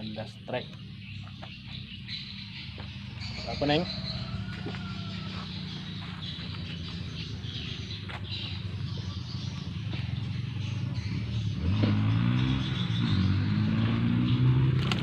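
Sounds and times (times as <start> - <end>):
motor engine humming: 0.0 - 12.3
faint bird chirps: 0.0 - 13.4.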